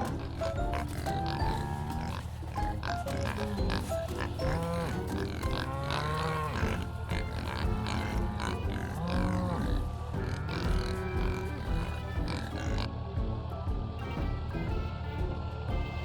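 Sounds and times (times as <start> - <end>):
cattle mooing: 0.0 - 12.9
soft background music: 0.0 - 16.0.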